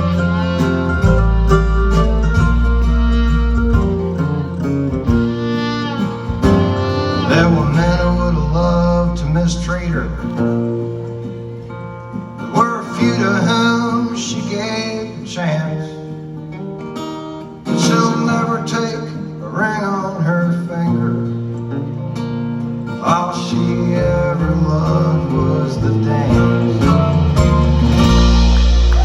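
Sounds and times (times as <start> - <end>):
guitar: 0.0 - 29.0
live country band playing: 0.0 - 29.0.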